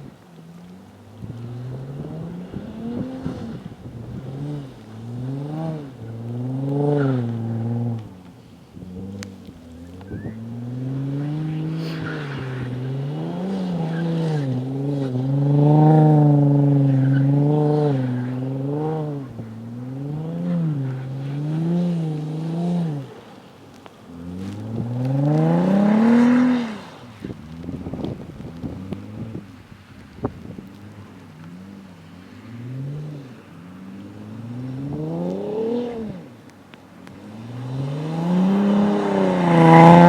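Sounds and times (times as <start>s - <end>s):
car engine revving hard: 1.1s - 29.8s, 30.7s - 36.5s, 37.2s - 40.0s.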